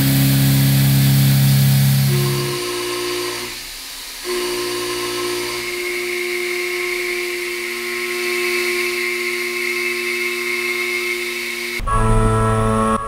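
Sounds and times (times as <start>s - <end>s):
milling machine cutting metal: 0.0s - 11.8s.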